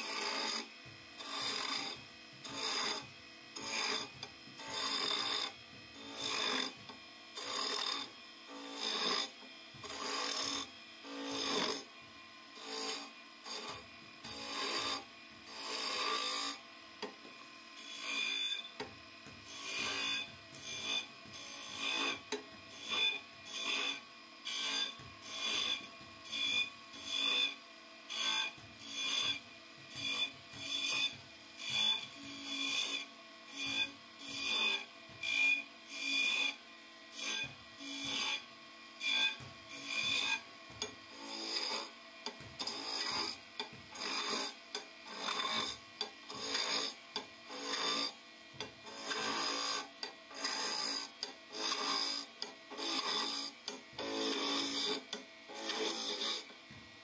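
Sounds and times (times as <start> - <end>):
chisel scraping spinning wood: 0.0 - 11.9, 12.6 - 17.2, 17.8 - 32.1, 39.0 - 56.6
thin high whine of tool: 0.0 - 56.8.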